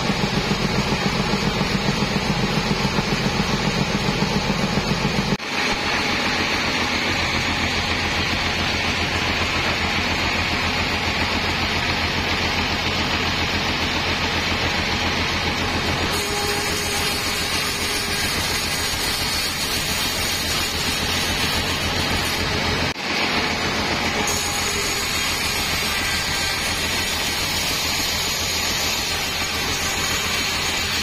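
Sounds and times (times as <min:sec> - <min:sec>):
bandsaw mill droning: 0:00.0 - 0:31.0
saw blade cutting wood: 0:00.0 - 0:31.0.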